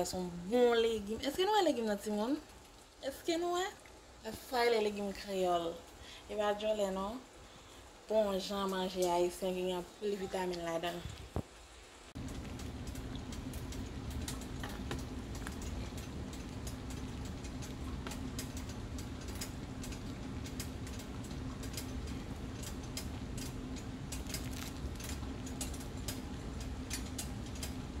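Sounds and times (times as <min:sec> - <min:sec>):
thick sauce boiling and popping: 0:00.0 - 0:06.0, 0:07.8 - 0:28.0
steady low hum: 0:03.8 - 0:28.0.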